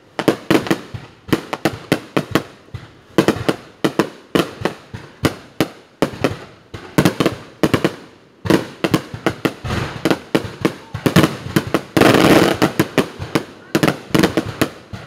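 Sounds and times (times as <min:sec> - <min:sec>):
fireworks banging with echo: 0:00.0 - 0:15.0
fireworks crackling: 0:00.0 - 0:15.0.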